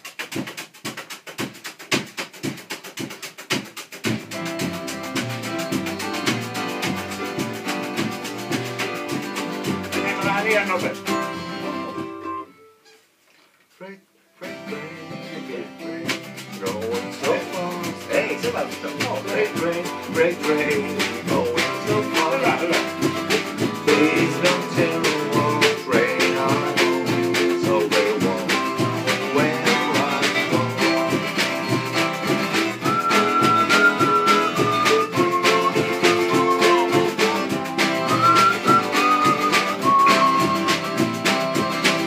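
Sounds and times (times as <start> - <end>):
percussive beat: 0.0 - 12.4, 15.9 - 42.0
skiffle band playing: 0.0 - 12.9, 14.4 - 42.0
guitar: 1.4 - 42.0
tea-chest bass: 4.1 - 12.5, 14.7 - 42.0.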